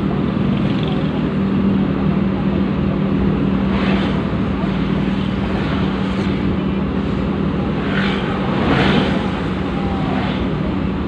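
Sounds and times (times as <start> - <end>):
vehicle engine drone and road noise: 0.0 - 11.0.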